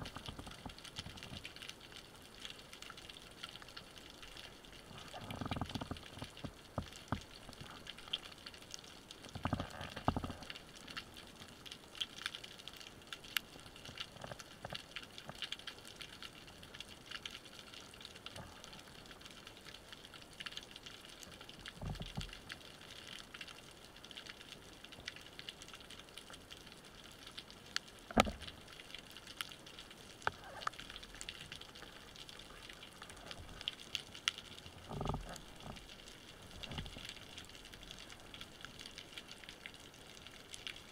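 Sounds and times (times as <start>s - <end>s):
underwater crackle of clicks: 0.0s - 40.9s.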